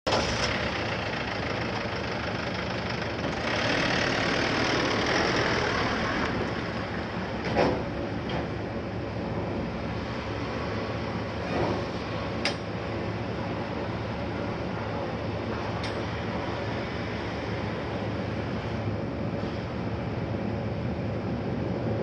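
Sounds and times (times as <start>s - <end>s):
heavy diesel engine running: 0.1s - 22.0s.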